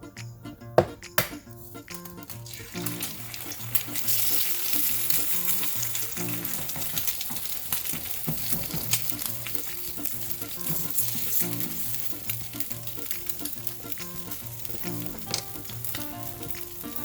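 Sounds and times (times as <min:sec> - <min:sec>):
food sizzling in a pan: 0:01.6 - 0:17.0.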